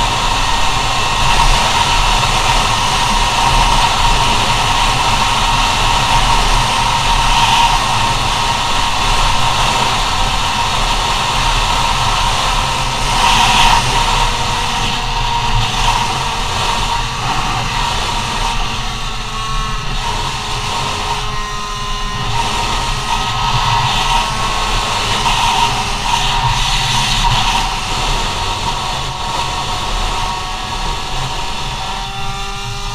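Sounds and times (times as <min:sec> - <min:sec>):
scooter engine buzzing whine: 0:00.0 - 0:32.9
wind rush on microphone: 0:00.0 - 0:32.9.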